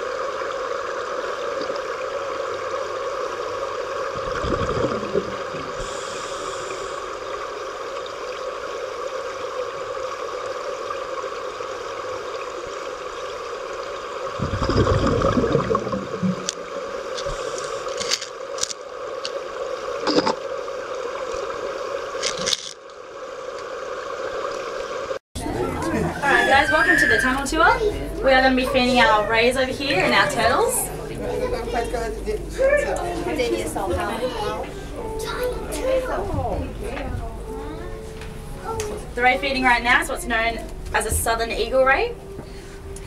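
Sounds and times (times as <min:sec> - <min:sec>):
rushing water: 0:00.0 - 0:37.9
constant hum: 0:00.0 - 0:43.0
low water rush: 0:00.0 - 0:43.0.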